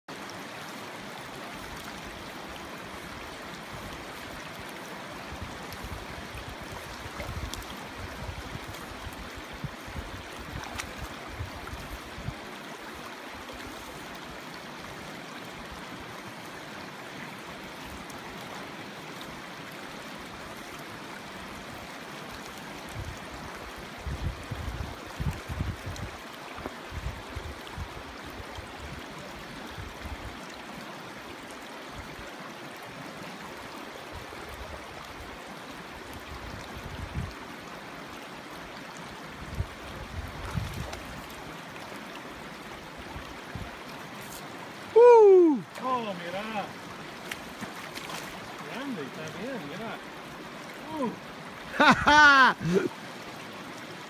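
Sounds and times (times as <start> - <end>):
river water rushing: 0.1 - 54.0.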